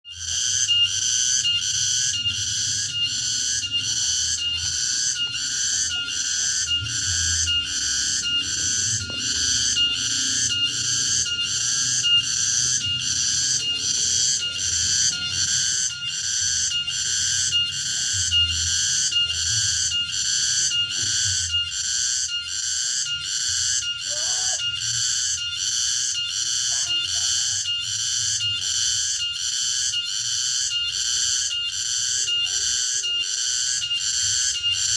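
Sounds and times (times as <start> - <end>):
cicada buzzing: 0.1 - 34.9.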